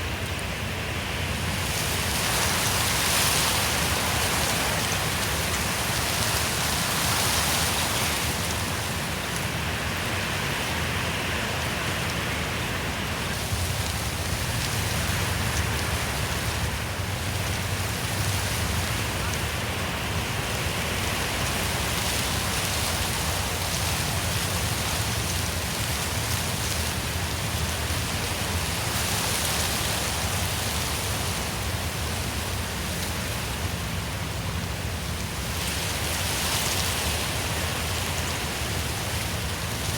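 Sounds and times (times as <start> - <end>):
wind rustling leaves in trees: 0.0 - 39.9.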